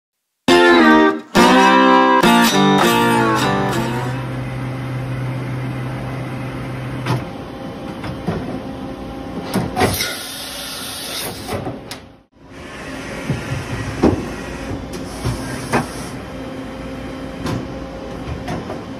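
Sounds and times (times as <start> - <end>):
machine mechanical hum: 3.0 - 18.9.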